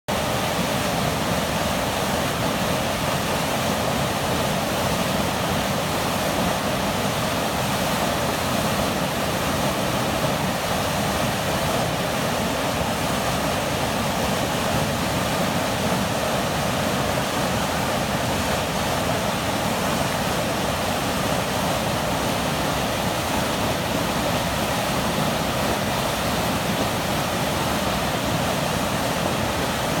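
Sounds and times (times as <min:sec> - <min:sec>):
water rushing: 0:00.1 - 0:30.0.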